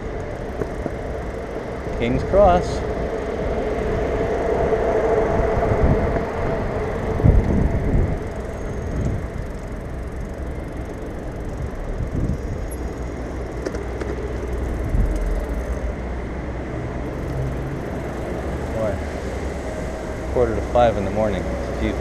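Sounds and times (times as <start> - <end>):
bicycle tyres rolling on wet paving: 0.0 - 15.9, 17.1 - 22.0
hum: 0.0 - 22.0
wind rushing past camera: 0.0 - 22.0.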